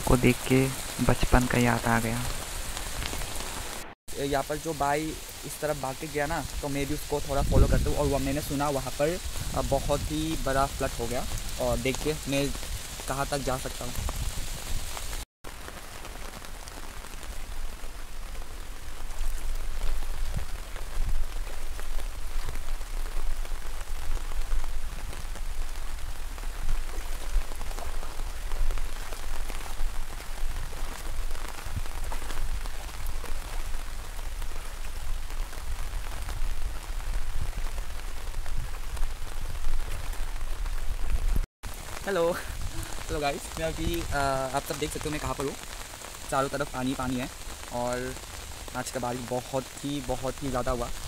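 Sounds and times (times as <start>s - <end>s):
rain falling on floodwater: 0.0s - 51.0s.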